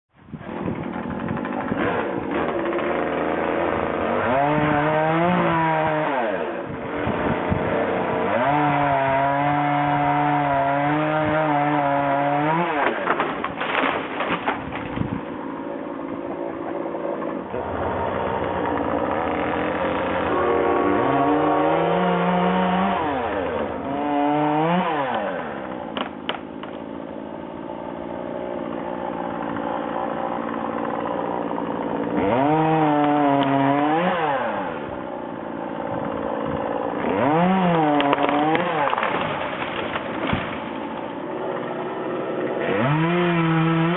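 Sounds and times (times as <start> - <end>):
chainsaw cutting tree: 0.3 - 43.9.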